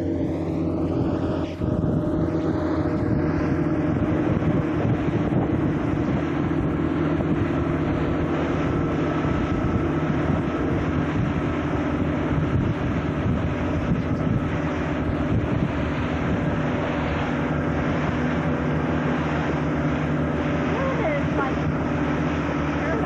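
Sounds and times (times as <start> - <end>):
motorboat engine running: 0.0 - 23.0
water rushing past hull: 0.0 - 23.0
wind buffeting microphone: 0.0 - 23.0.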